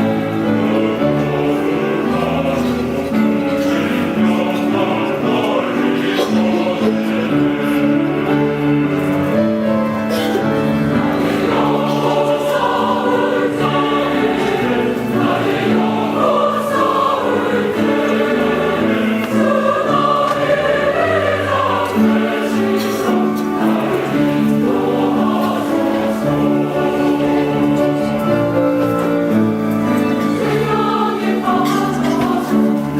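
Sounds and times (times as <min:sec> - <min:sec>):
choir singing a hymn: 0:00.0 - 0:32.9.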